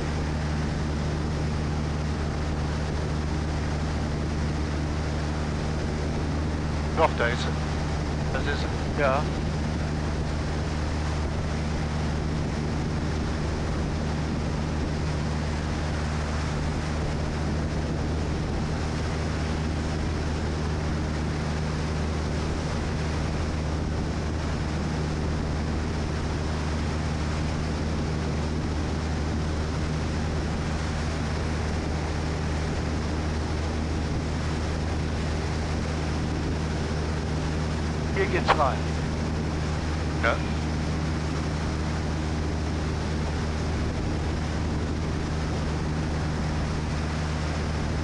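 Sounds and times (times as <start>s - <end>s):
propeller aircraft engine drone: 0.0s - 48.0s
rushing airstream: 0.0s - 48.0s.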